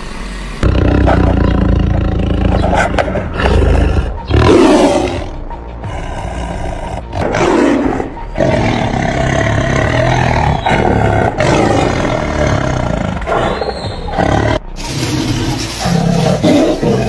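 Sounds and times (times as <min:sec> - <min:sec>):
big cat roaring: 0:00.6 - 0:17.0.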